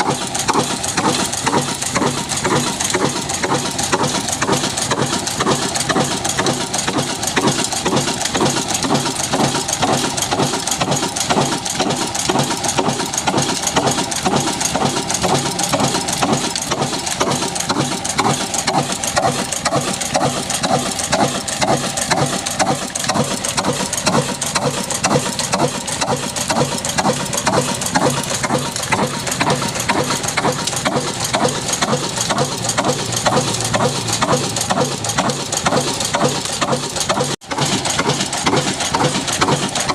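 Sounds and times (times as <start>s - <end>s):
stationary engine running flour mill: 0.0s - 39.9s.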